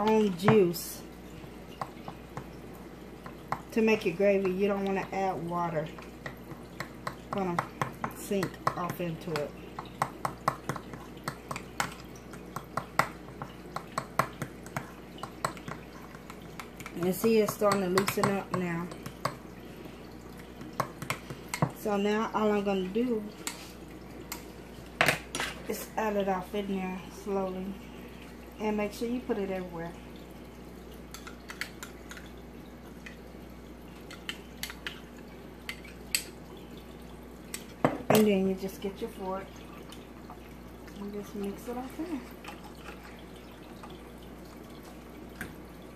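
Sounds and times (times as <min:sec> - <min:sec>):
faint steady hum: 0:00.0 - 0:45.9
soft drips: 0:00.0 - 0:45.9.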